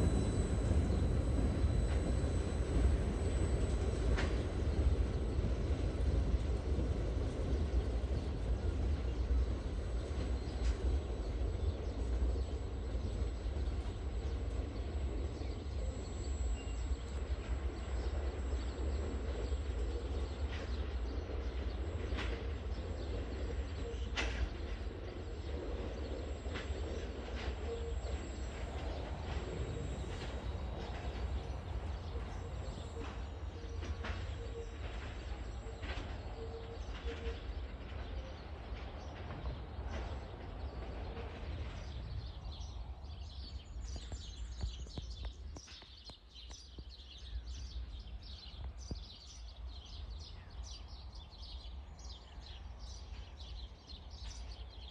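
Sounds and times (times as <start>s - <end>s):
distant train rumbling: 0.0s - 54.9s.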